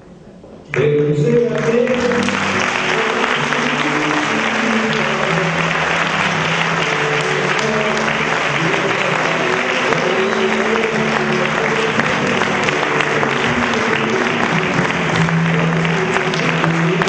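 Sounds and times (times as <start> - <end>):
audience applauding: 0.7 - 17.0
music with held notes: 0.7 - 17.0.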